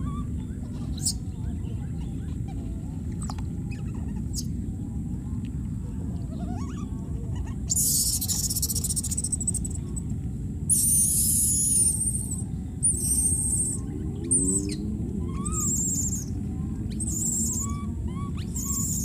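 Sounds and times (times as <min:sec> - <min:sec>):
baby monkeys squealing: 0:00.0 - 0:04.6, 0:06.3 - 0:09.8, 0:10.7 - 0:19.0
steady low rumble: 0:00.0 - 0:19.0.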